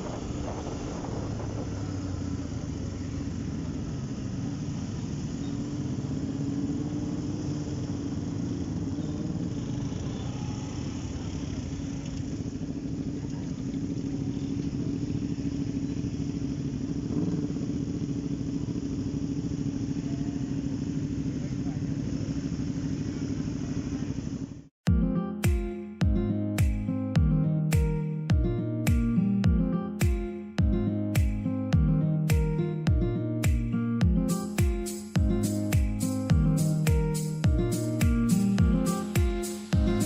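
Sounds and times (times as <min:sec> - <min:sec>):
motorcycle engine running: 0:00.0 - 0:25.0, 0:26.0 - 0:40.0.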